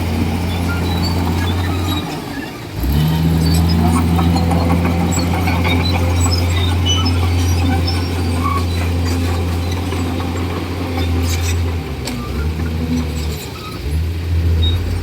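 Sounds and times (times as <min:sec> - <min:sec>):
bulldozer diesel engine running: 0:00.0 - 0:15.0
machine squeaks and clicks: 0:00.2 - 0:15.0.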